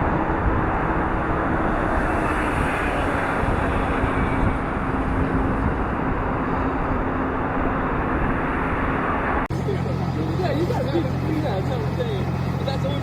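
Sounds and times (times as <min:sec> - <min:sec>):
engine noise rushing: 0:00.0 - 0:13.0.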